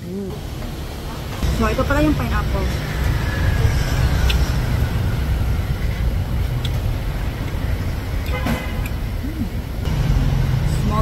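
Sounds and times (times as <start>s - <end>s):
cars passing: 0.0s - 11.0s
low traffic rumble: 0.0s - 11.0s
motorbikes passing: 0.0s - 11.0s.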